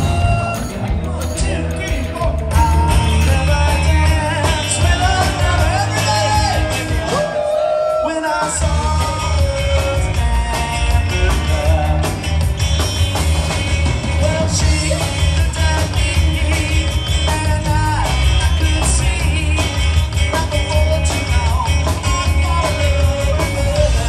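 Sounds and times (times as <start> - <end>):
man singing: 0.0 - 12.8, 13.7 - 24.0
rock band playing: 0.0 - 24.0.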